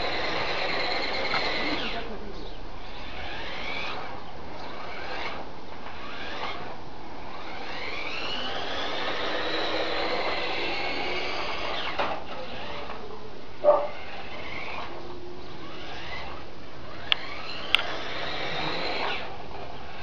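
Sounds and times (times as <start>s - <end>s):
toy car motor whining: 0.0s - 2.2s, 2.8s - 20.0s.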